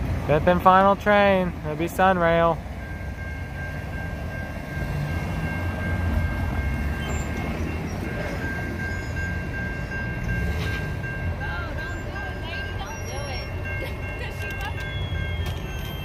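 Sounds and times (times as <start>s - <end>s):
crossing warning bells ringing: 0.0s - 16.0s
train rumble: 0.0s - 16.0s.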